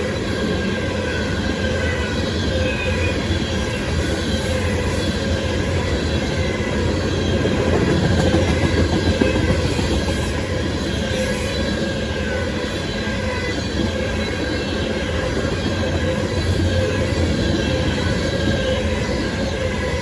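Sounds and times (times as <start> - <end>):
train cars rumbling on rails: 0.0 - 20.0.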